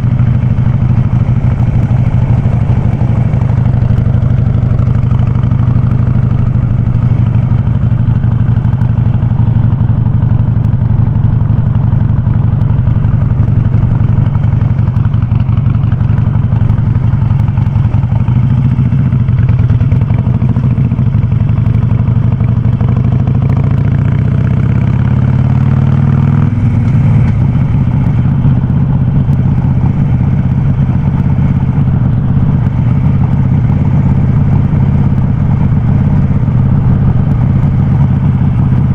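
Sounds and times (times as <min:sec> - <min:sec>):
motorcycle engine through open exhaust: 0:00.0 - 0:38.9.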